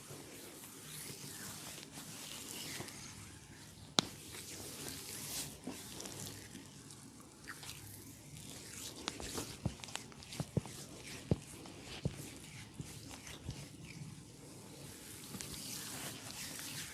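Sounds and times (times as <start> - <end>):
soft rubbing over skin: 0.0 - 16.9.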